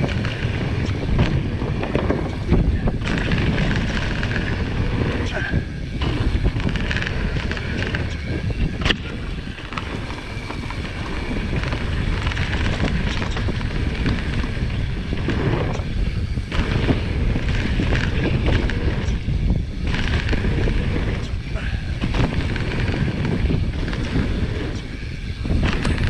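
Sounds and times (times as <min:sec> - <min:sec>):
bike rattling and tyre noise: 0:00.0 - 0:26.0
wind rushing over microphone: 0:00.0 - 0:26.0.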